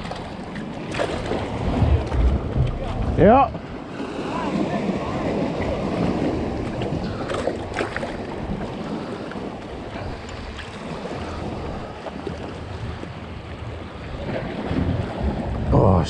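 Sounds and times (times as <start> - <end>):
surf on rocky shore: 0.0 - 16.0
wind buffeting microphone: 0.0 - 16.0.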